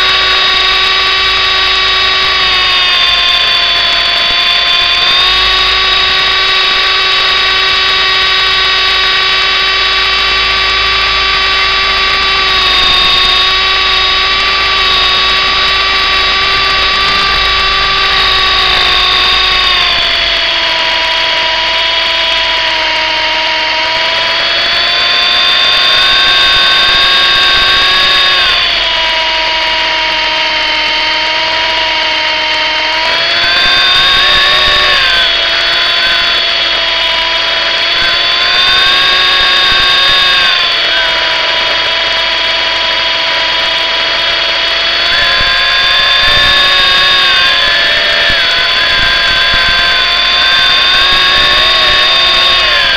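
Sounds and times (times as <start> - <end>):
rc helicopter whining in flight: 0.0 - 52.9.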